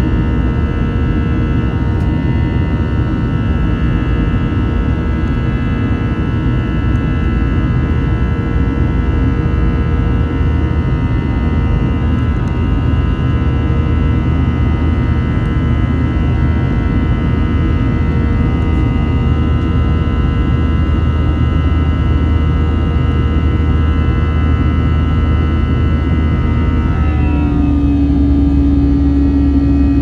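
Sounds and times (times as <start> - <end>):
whining engine tones: 0.0 - 5.9, 10.7 - 30.0
jet engines rumbling in cabin: 0.0 - 30.0.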